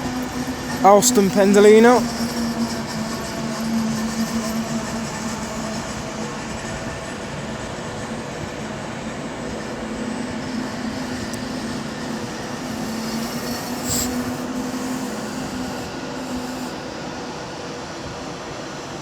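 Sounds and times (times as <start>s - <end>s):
electric train equipment hum: 0.0s - 17.8s.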